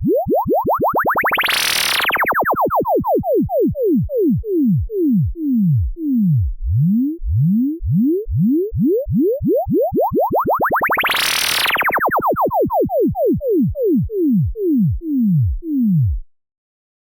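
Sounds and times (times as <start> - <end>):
electronic pitch sweeps: 0.0 - 16.1.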